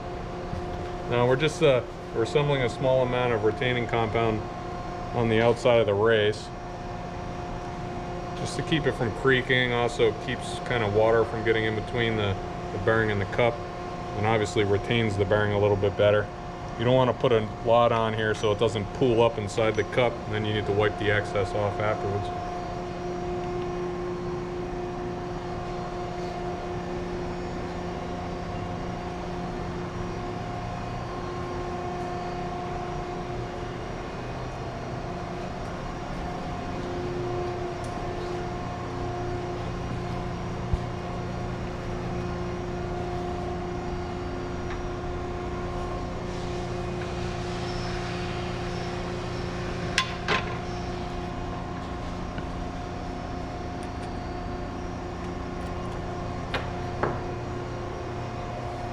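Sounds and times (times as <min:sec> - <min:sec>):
steady machine hum: 0:00.0 - 0:58.9.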